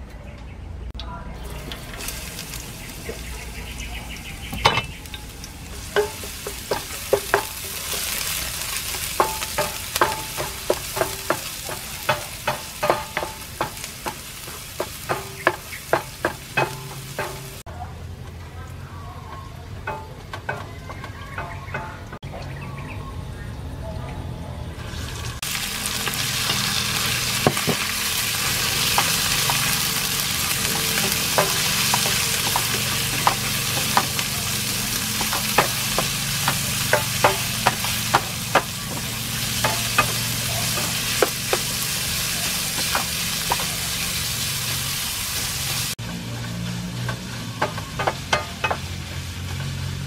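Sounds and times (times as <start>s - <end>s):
meat sizzling in hot oil: 1.5s - 17.7s, 24.9s - 50.0s.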